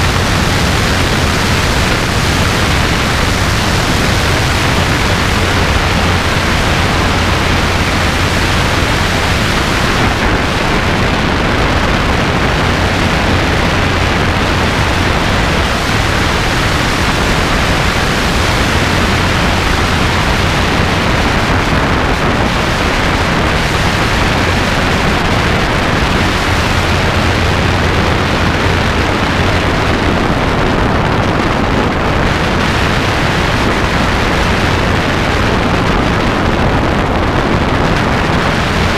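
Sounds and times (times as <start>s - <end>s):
helicopter engine and rotor drone: 0.0s - 38.9s
wind rushing over microphone: 0.0s - 38.9s.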